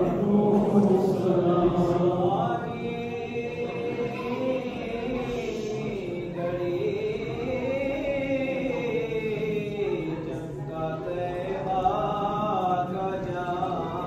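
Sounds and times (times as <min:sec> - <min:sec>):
person chanting: 0:00.0 - 0:14.0.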